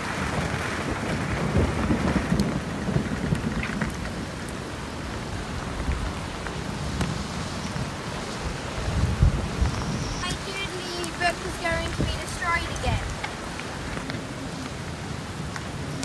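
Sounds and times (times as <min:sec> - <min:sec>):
heavy rain on boat and water: 0:00.0 - 0:16.0.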